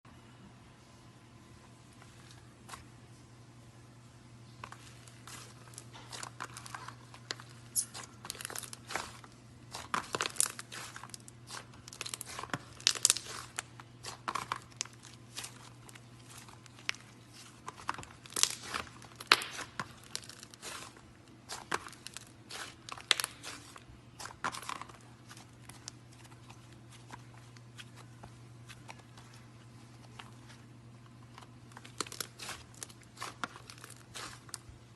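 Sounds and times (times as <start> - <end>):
faint steady hum: 0.1 - 34.9.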